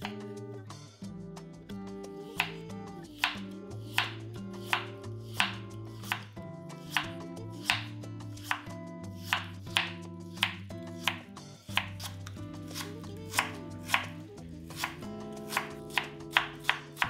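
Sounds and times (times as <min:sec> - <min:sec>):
soft background music: 0:00.0 - 0:17.0
knife slicing carrot on board: 0:02.3 - 0:02.6, 0:03.2 - 0:17.0.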